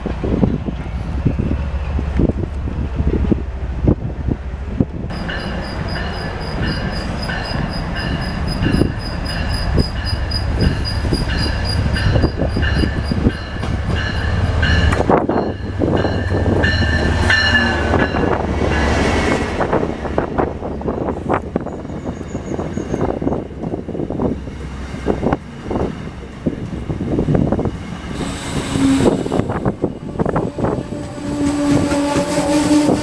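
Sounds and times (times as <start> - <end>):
wind buffeting microphone: 0.0 - 5.2, 6.0 - 33.0
train rumbling past: 0.0 - 33.0.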